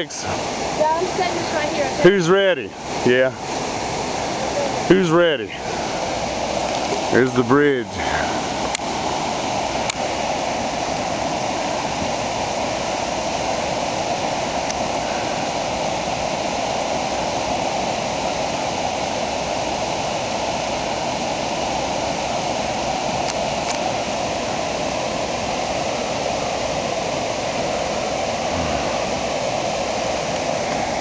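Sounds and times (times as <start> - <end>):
rapids rushing: 0.0 - 31.0.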